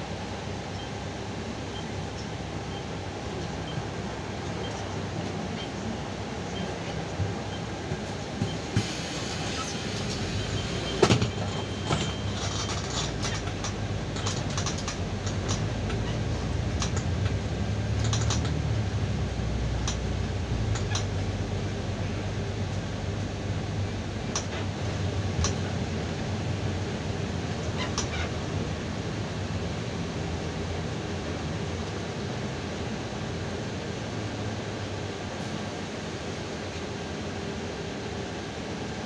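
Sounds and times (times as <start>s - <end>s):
bus engine drone: 0.0s - 39.0s.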